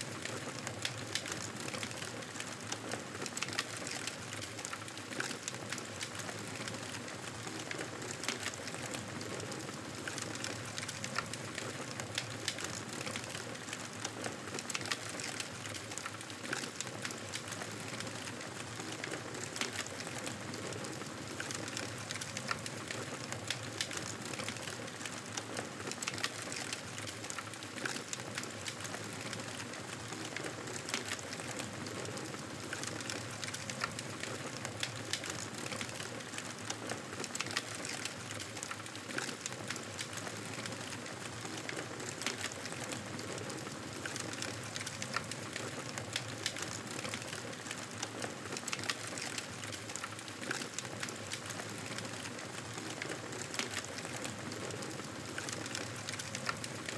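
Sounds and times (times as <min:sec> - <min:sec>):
campfire crackling and popping: 0:00.1 - 0:56.9.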